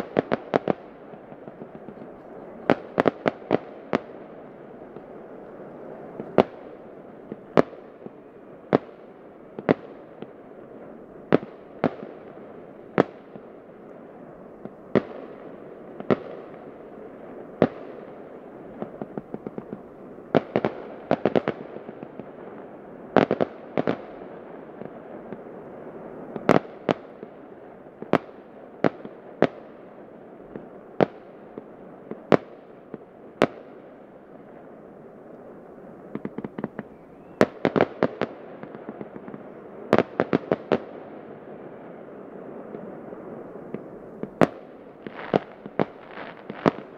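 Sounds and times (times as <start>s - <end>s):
distant fireworks bursts: 0.0s - 46.9s.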